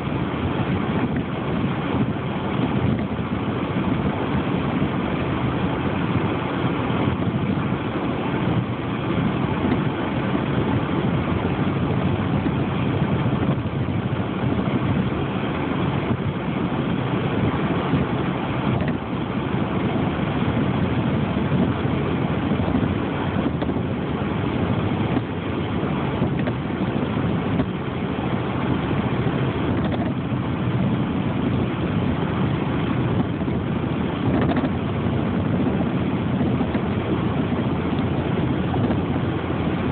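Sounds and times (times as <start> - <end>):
motor vehicle engine and road noise: 0.0 - 39.9.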